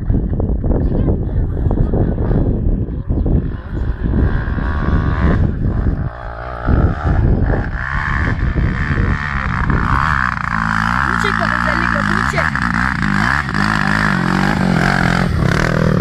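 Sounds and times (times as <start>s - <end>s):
dirt bike engine under throttle: 0.0s - 16.0s.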